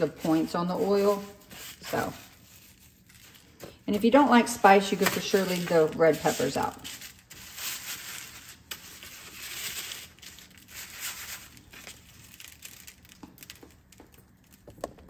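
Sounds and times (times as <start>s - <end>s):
breadcrumbs crunching and rustling: 0.0s - 15.0s.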